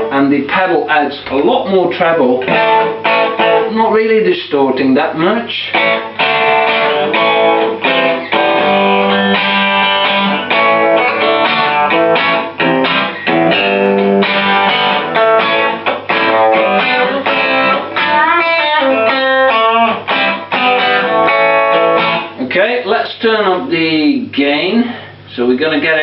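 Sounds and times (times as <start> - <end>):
bright electric guitar: 0.0 - 0.4, 1.2 - 4.0, 4.8 - 22.9.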